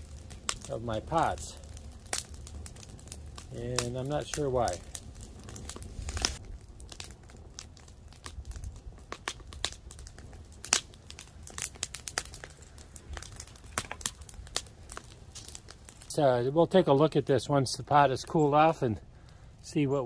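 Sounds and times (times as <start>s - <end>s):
sharp snaps of burning wood: 0.0s - 20.0s
wood fire crackling and popping: 0.0s - 20.0s.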